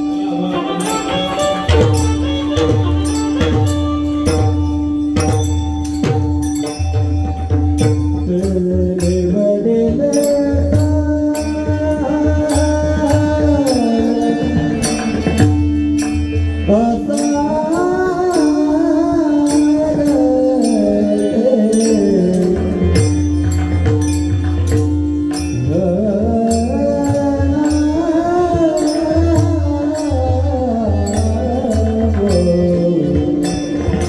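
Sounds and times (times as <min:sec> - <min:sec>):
man singing devotional song: 0:00.0 - 0:05.4, 0:07.3 - 0:34.0
percussion strikes: 0:00.0 - 0:34.0.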